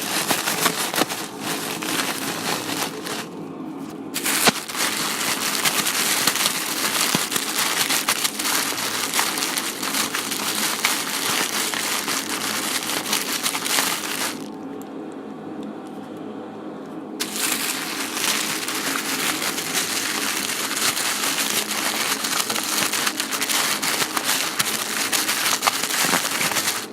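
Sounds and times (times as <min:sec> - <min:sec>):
plastic crinkling: 0:00.0 - 0:03.4, 0:04.2 - 0:14.6, 0:17.2 - 0:26.9.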